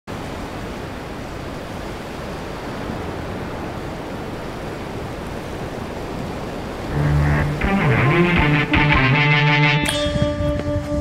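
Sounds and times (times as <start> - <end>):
sea water rushing: 0.1 - 10.0.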